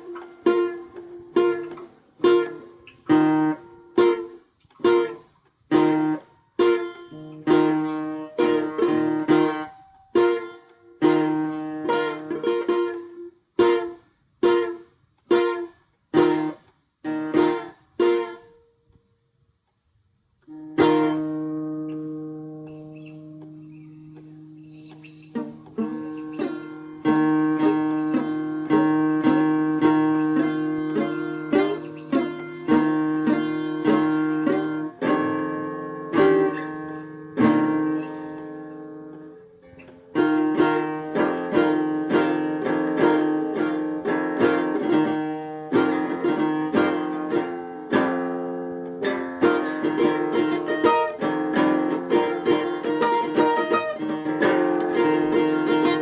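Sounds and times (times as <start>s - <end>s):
plucked string instrument music: 0.0s - 18.8s, 20.4s - 56.0s.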